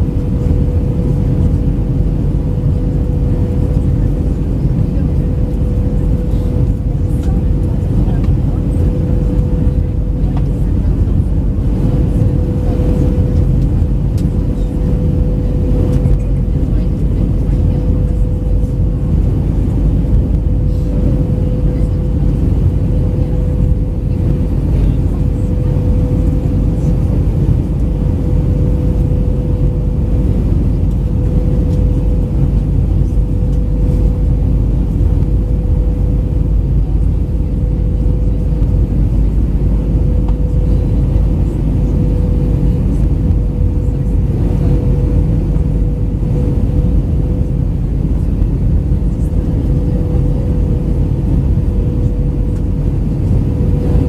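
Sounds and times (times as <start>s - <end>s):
airplane cabin engine roar: 0.0s - 54.0s
constant cabin hum: 0.0s - 54.0s.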